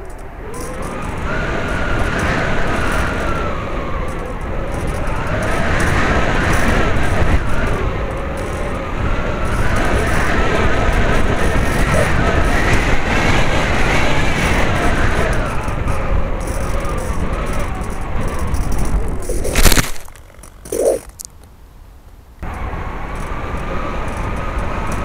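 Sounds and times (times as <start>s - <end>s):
electric motor and propeller whining: 0.0s - 21.4s, 22.4s - 25.0s
wind rush: 0.1s - 21.2s.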